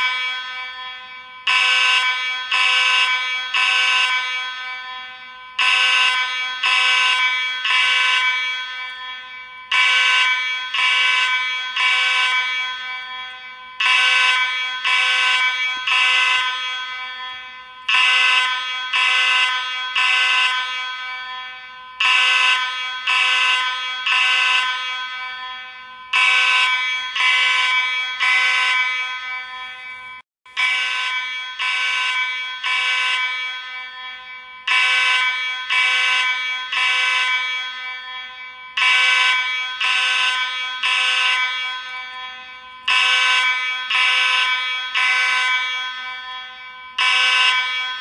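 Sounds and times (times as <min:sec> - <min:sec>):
fire alarm buzzy blasts: 0:00.0 - 0:48.0.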